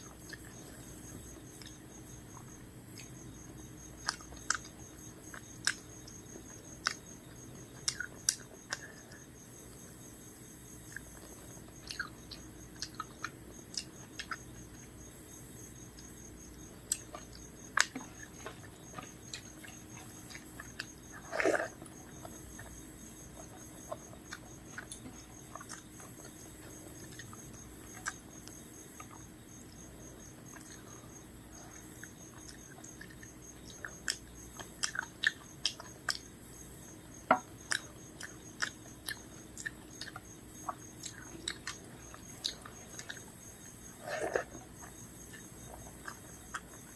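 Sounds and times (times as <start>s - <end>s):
chewing and eating: 0.0s - 46.9s.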